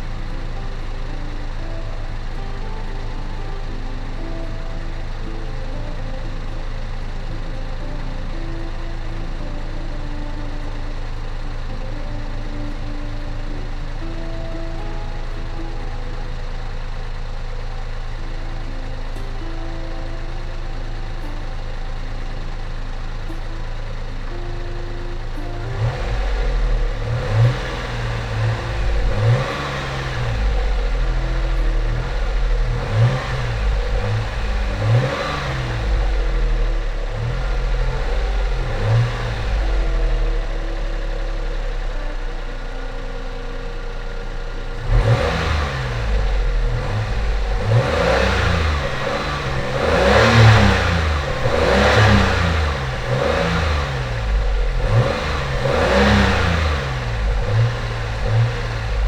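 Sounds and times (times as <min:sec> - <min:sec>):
car engine revving in blips: 0:00.0 - 0:59.0.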